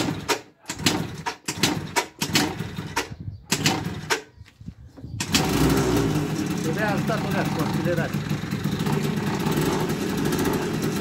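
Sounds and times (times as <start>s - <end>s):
scooter engine cranking: 0.0s - 4.3s, 5.2s - 11.0s.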